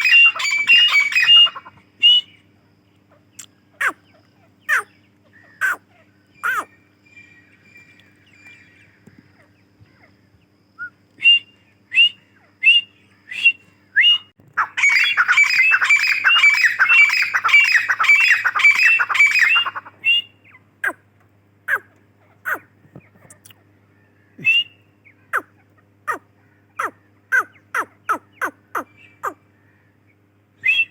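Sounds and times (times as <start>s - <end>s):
bird rapid dense chatter: 0.0s - 2.4s, 3.0s - 10.6s, 14.6s - 30.9s
francolin calling: 0.0s - 2.4s, 3.1s - 22.7s, 23.3s - 30.9s.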